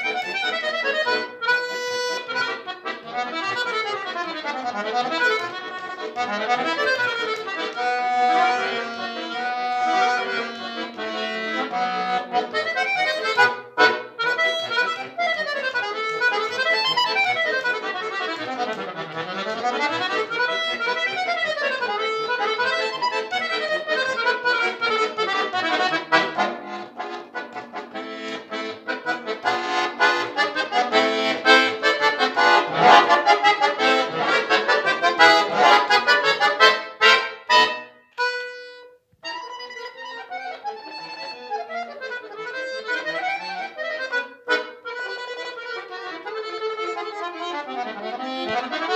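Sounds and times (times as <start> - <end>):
button accordion playing fast runs: 0.0 - 48.9.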